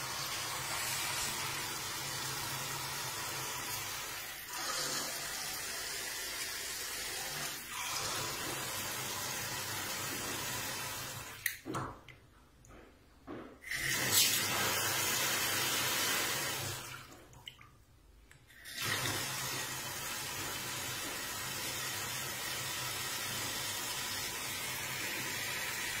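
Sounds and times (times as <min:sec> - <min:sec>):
tap water running into sink: 0:00.0 - 0:12.2, 0:13.6 - 0:17.6, 0:18.5 - 0:26.0.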